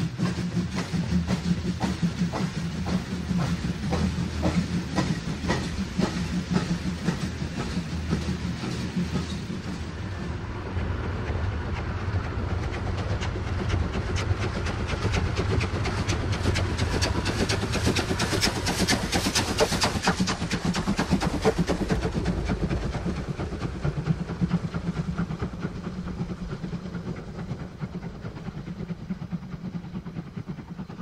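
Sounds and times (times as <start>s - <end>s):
steady rumble: 0.0s - 31.0s
steam hiss: 0.0s - 31.0s
steam locomotive beats: 0.0s - 31.0s.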